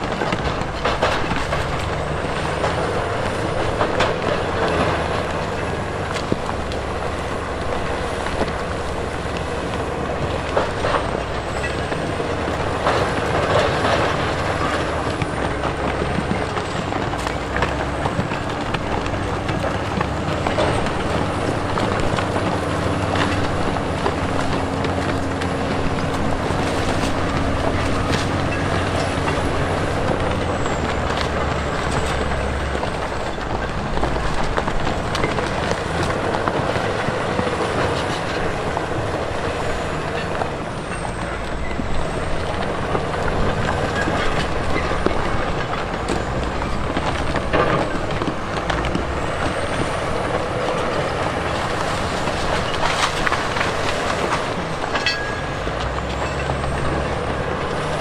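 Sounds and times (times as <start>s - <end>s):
heavy diesel engine under load: 0.0s - 58.0s
metal and rock clatter: 0.0s - 58.0s.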